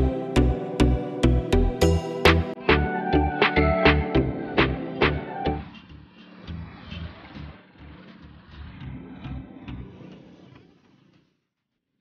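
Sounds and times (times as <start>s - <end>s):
electronic beat music: 0.0s - 9.9s.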